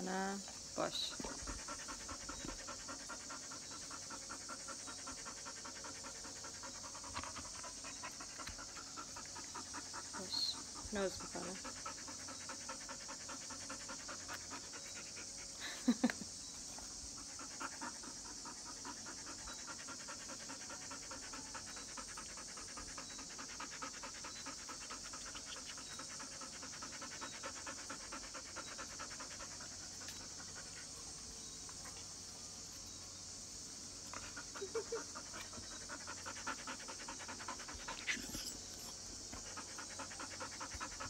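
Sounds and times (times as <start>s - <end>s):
dog panting: 0.0s - 32.8s, 33.6s - 41.0s.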